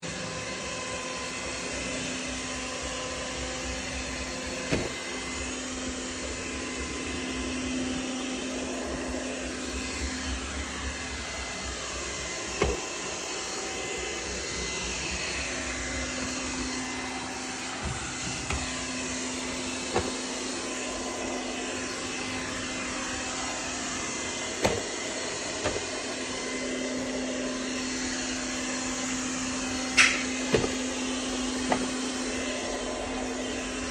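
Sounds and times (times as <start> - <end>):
robot vacuum motor whirring: 0.5 - 33.9.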